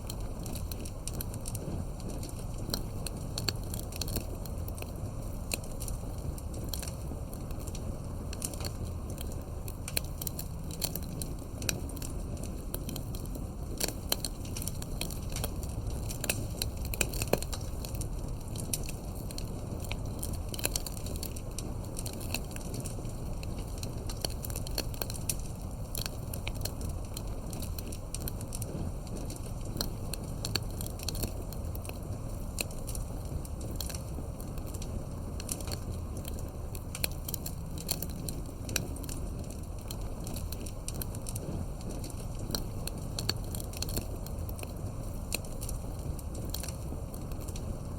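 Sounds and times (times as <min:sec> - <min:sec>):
fire crackling and popping: 0:00.0 - 0:47.9
low rush of burning: 0:00.0 - 0:47.9.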